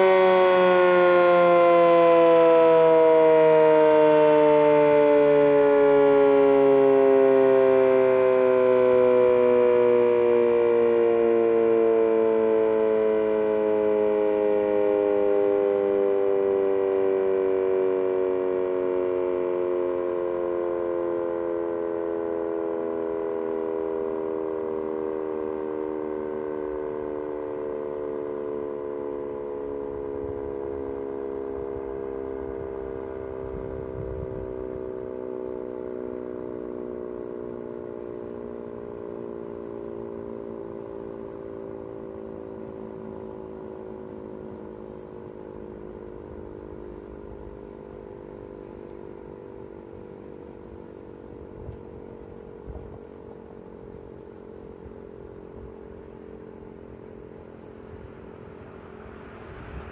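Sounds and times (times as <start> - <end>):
dual-tone storm siren winding down: 0.0 - 59.9.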